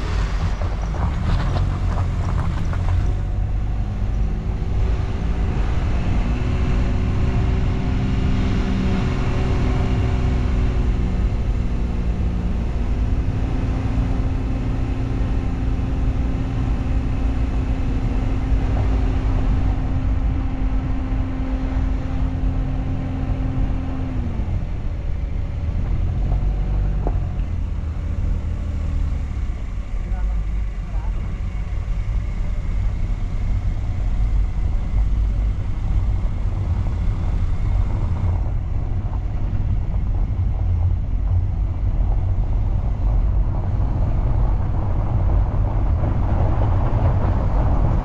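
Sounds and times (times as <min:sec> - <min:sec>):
heavy low rumble: 0:00.0 - 0:48.0.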